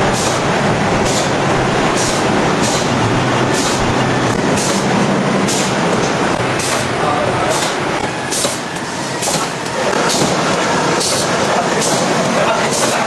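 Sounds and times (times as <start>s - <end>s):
factory machinery running: 0.0s - 13.0s.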